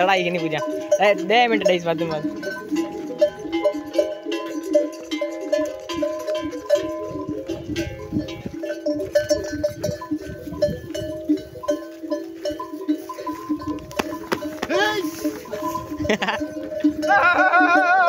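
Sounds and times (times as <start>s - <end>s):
camel bells clanking: 0.0s - 18.0s.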